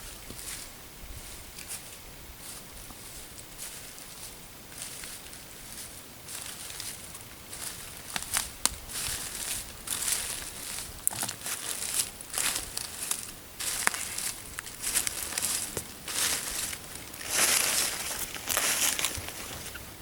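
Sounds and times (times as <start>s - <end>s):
rustling and crinkling: 0.0s - 19.9s.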